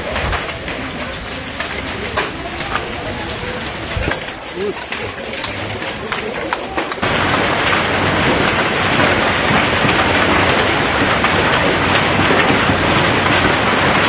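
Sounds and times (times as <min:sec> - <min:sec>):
hail clattering: 0:00.0 - 0:14.0
strong wind: 0:00.0 - 0:14.0.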